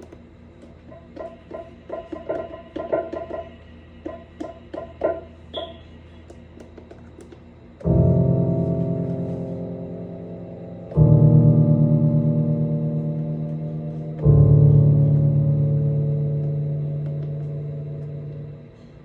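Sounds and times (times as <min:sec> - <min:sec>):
electric piano chords: 0:00.8 - 0:05.8, 0:07.8 - 0:19.0.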